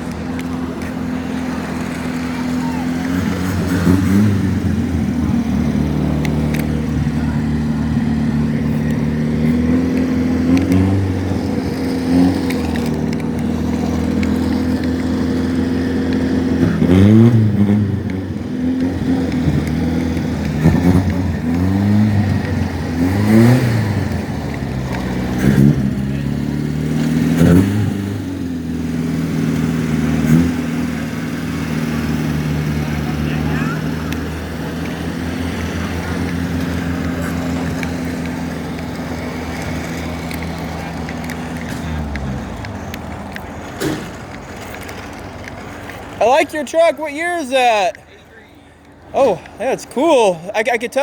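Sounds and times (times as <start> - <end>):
car engine revving: 0.0 - 48.0
car engine idling: 0.0 - 51.0.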